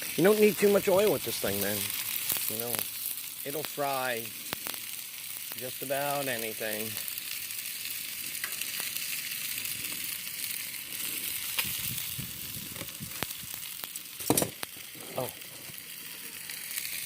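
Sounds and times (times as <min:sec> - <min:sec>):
food sizzling on griddle: 0:00.0 - 0:17.0.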